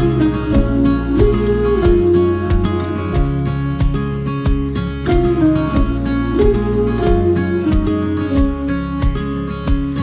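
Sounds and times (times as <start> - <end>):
steady beat: 0.0 - 10.0
strummed acoustic guitar: 0.0 - 10.0.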